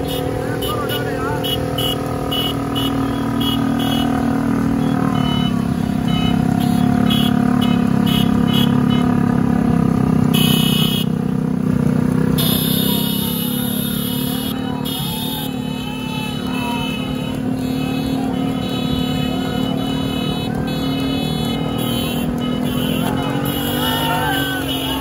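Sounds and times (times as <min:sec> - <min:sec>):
horns blaring: 0:00.0 - 0:25.0
motorcycle engines droning: 0:00.0 - 0:25.0.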